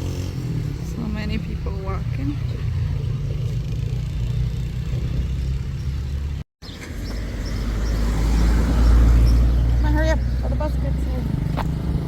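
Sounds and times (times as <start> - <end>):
car rumbling on road: 0.0 - 12.0.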